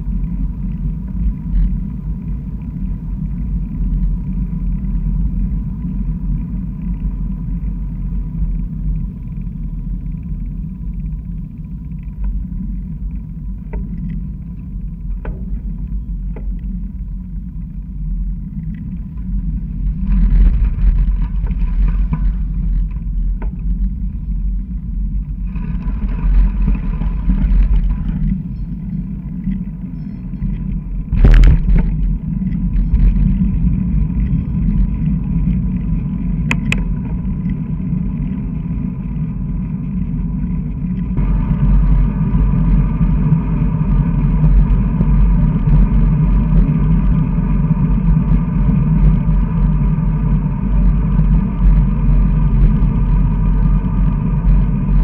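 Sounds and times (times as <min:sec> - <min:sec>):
wind rumbling over camera: 0:00.0 - 0:55.0.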